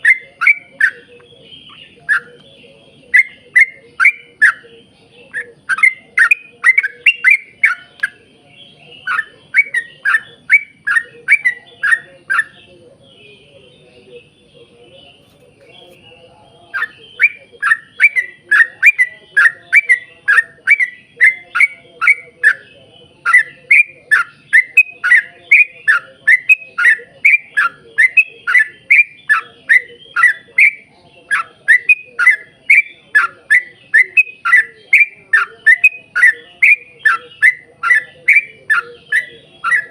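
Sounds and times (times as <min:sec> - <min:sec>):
bird singing downward chirps: 0:00.0 - 0:39.9.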